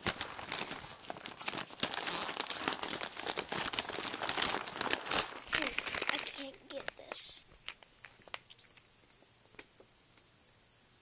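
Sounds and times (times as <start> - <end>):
plastic package crinkling: 0.0 - 9.8.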